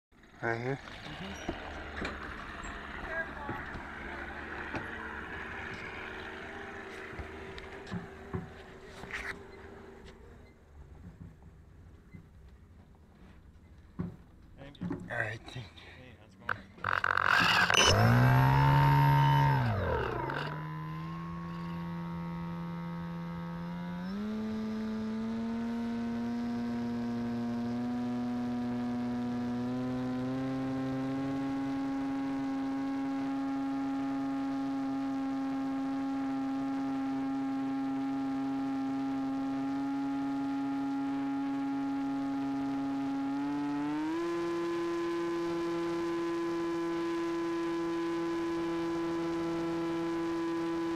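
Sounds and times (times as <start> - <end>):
model airboat motor whine: 0.2 - 11.2, 16.5 - 50.9.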